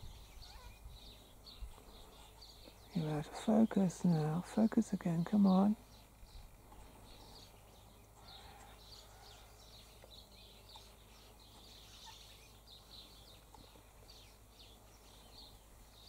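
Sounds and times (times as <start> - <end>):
distant birds chirping: 0.0 - 16.0
low steady hum: 0.0 - 16.0.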